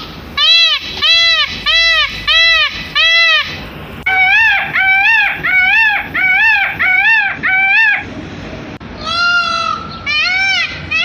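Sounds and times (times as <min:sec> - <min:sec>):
peafowl calling: 0:00.0 - 0:08.1, 0:09.0 - 0:11.0.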